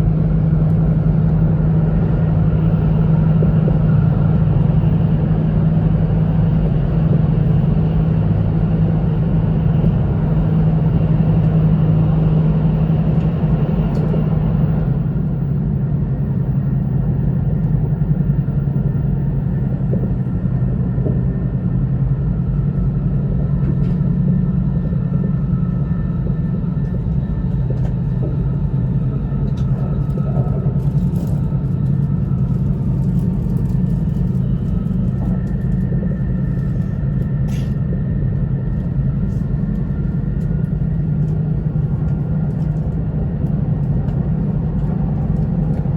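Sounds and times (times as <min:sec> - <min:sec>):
train cabin rumble: 0:00.0 - 0:45.9.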